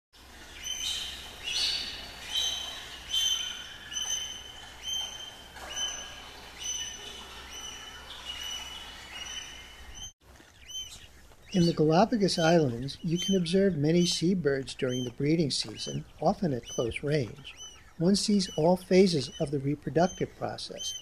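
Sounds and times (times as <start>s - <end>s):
gull calling: 0.6s - 10.1s, 10.7s - 21.0s.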